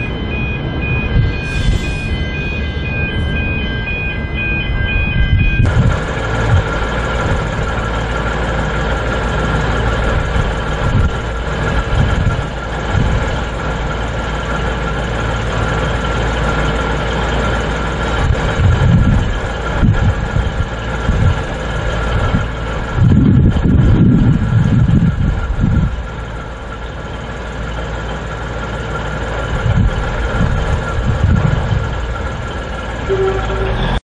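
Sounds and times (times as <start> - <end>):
diesel train engine idling: 0.0 - 34.0.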